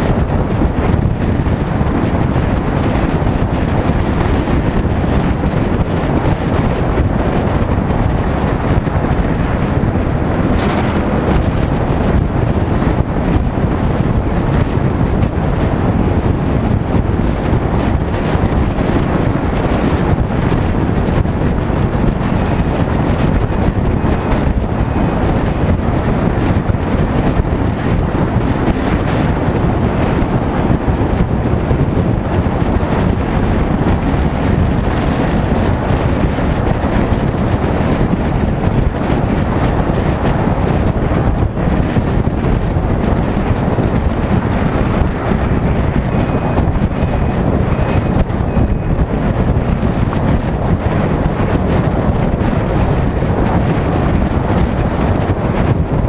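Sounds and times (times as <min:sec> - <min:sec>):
motorcycle engine: 0:00.0 - 0:56.0
road noise: 0:00.0 - 0:56.0
wind rushing over microphone: 0:00.0 - 0:56.0.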